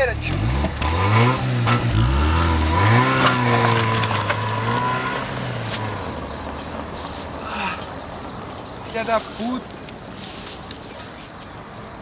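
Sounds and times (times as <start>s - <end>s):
car engine revving and pulling away: 0.0s - 11.9s.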